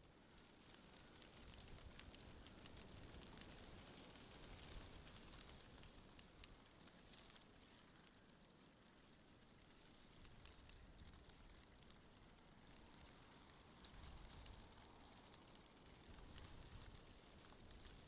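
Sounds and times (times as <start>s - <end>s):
light crackling ticks: 0.1s - 18.0s.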